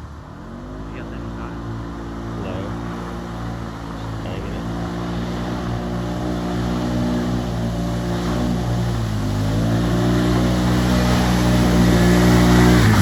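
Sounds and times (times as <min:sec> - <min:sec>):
atv engine running in mud: 0:00.0 - 0:13.0.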